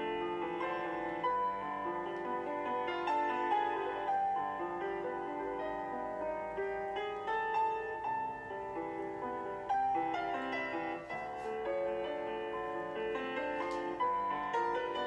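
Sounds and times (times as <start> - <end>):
slow classical piano piece: 0.0 - 15.0.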